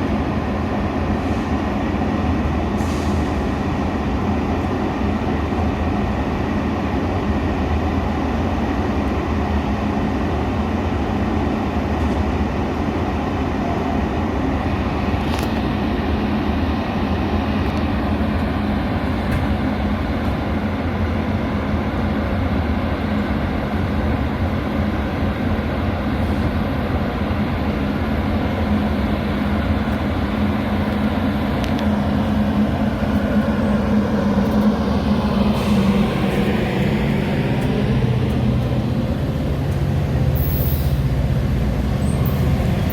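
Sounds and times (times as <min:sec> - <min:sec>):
train rumbling and humming: 0:00.0 - 0:42.9.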